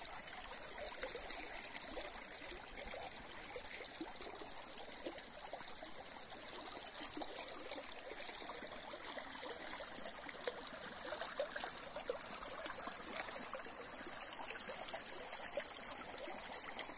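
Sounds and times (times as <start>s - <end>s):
small river babbling: 0.0s - 16.9s.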